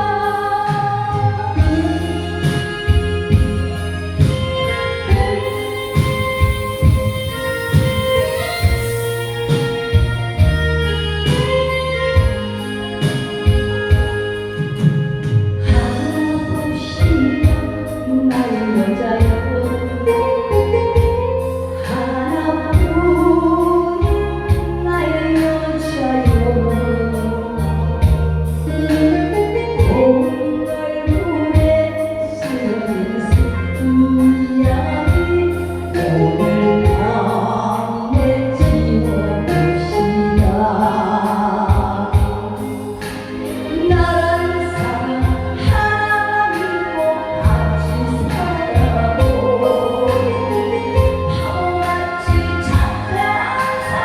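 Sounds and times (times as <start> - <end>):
backing track with steady beat: 0.0 - 54.0
woman singing into a microphone: 0.0 - 54.0.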